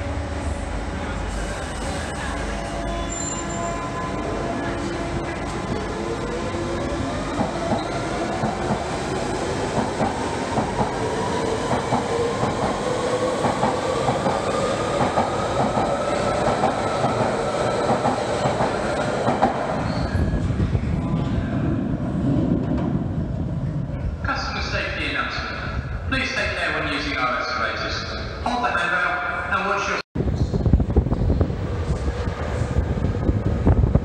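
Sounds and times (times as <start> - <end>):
low train rumble: 0.0 - 28.5, 30.2 - 34.0.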